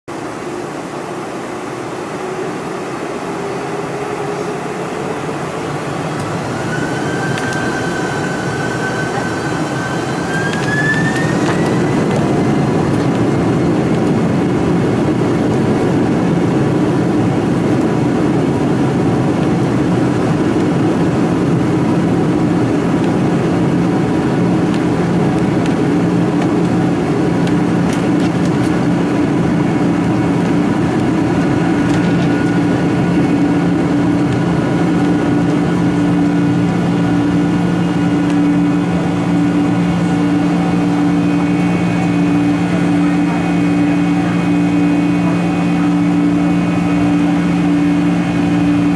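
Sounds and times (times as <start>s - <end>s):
jet engines spooling up: 0.2s - 48.9s.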